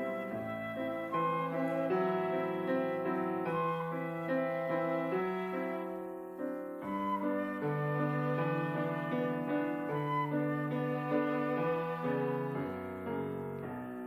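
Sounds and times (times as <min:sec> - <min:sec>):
flute violin and piano chamber music: 0:00.0 - 0:14.0.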